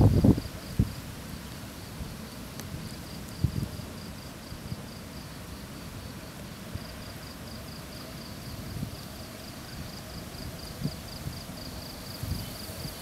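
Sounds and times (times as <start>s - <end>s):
wind rumble on microphone: 0.0s - 5.0s, 5.8s - 13.0s
insect chirping: 0.0s - 13.0s.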